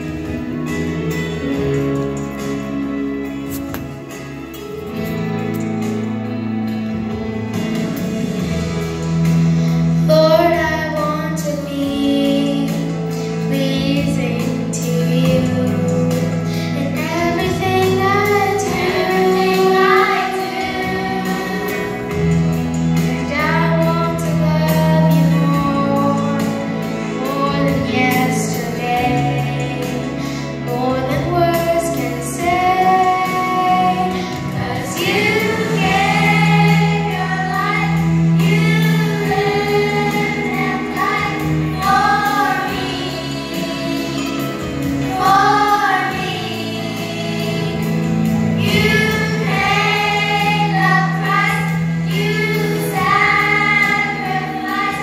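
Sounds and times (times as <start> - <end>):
children's choir singing: 5.8 - 55.0
girl singing lead: 9.2 - 55.0.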